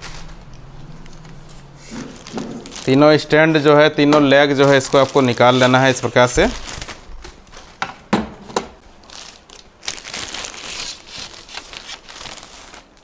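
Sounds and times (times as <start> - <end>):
packaging crinkling: 0.0 - 3.3, 4.3 - 7.8, 8.8 - 13.0.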